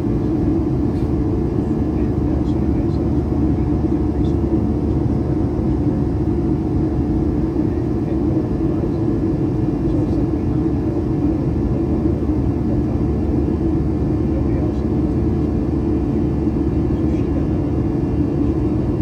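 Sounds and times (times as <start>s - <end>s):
faint steady hums: 0.0s - 19.0s
jet engine drone in cabin: 0.0s - 19.0s.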